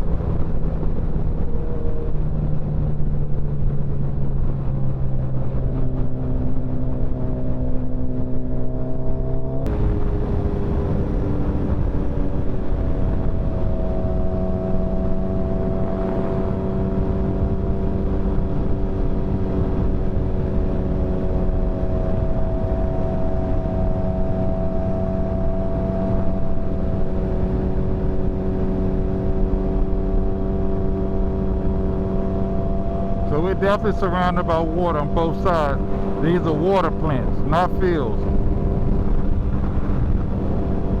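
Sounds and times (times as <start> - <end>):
motorcycle engine cruising: 0.0 - 36.2
road and wind noise: 0.0 - 41.0.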